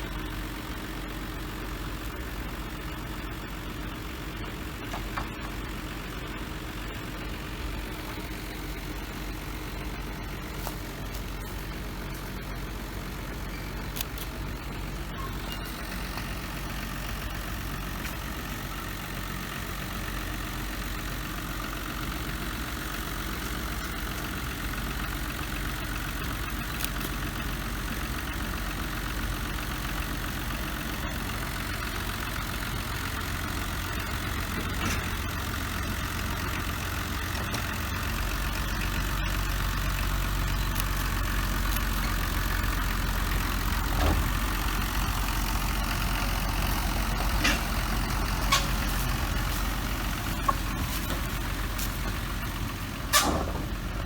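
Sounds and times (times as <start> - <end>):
train engine idling: 0.0 - 54.0.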